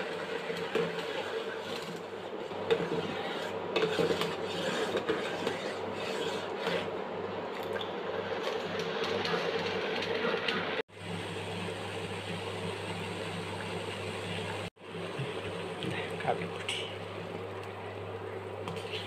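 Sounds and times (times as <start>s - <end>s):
pot boiling with bubbling hiss: 0.0s - 19.0s.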